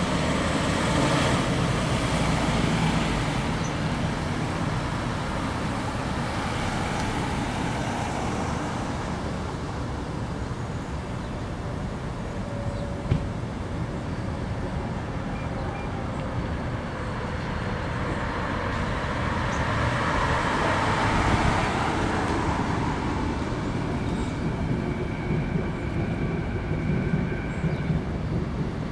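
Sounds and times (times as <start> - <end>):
road traffic noise: 0.0 - 28.9.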